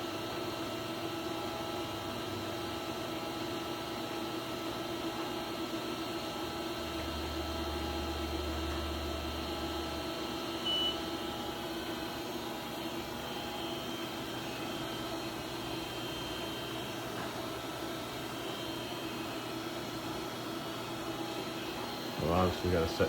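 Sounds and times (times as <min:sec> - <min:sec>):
machine electronics and fans humming: 0:00.0 - 0:23.0.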